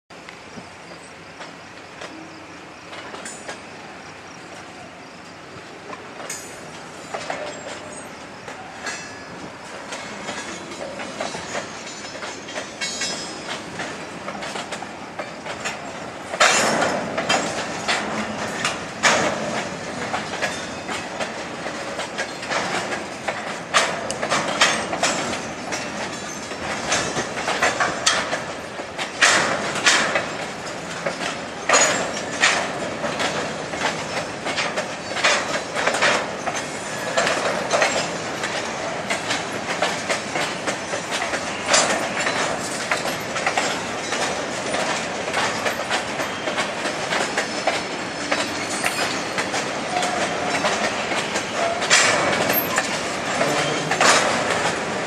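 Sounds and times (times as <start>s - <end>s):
train wheels clacking on track: 0.1s - 55.0s.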